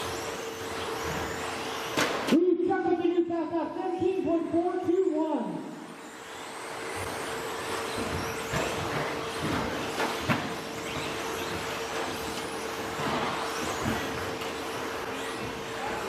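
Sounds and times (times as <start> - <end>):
electric motors whining: 0.0 - 3.2, 3.9 - 16.0.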